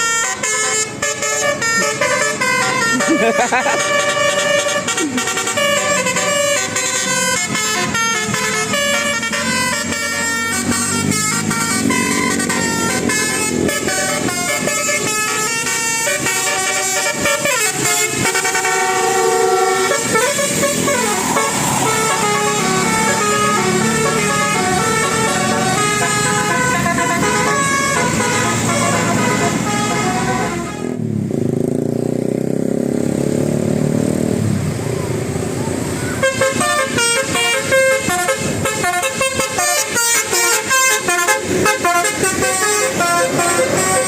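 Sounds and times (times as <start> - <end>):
musical bus horn tune: 0.0 - 31.1, 36.2 - 44.0.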